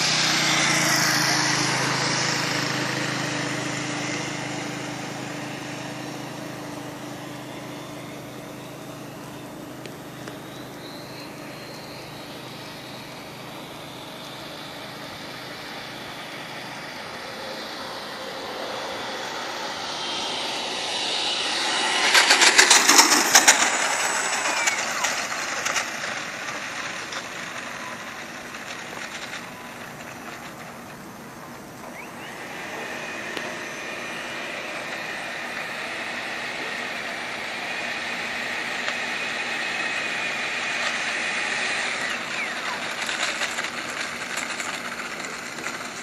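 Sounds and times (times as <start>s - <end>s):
electric ducted fan whining: 0.0s - 46.0s.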